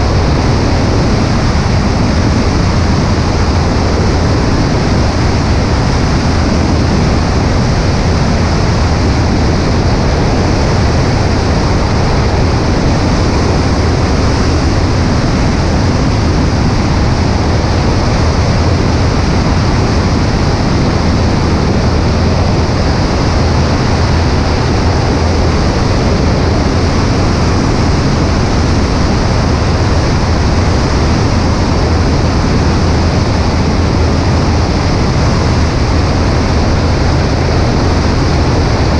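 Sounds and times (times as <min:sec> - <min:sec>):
light aircraft engine drone: 0:00.0 - 0:38.9
wind rushing on microphone: 0:00.0 - 0:38.9.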